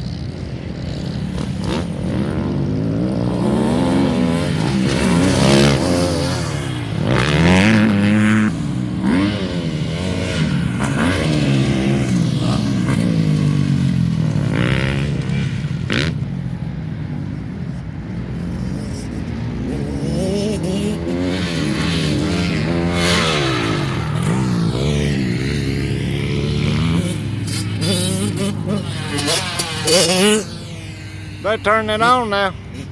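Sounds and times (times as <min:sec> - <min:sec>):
dirt bikes revving: 0:00.0 - 0:32.9.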